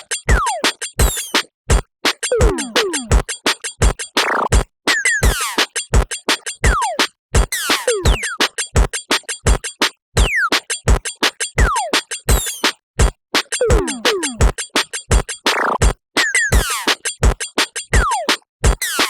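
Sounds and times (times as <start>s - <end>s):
drum machine beat: 0.0s - 19.0s.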